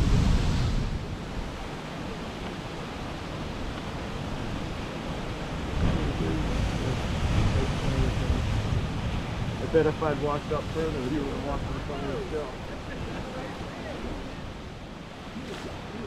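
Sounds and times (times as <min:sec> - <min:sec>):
ocean waves rumbling: 0:00.0 - 0:16.0
water washing: 0:00.0 - 0:16.0.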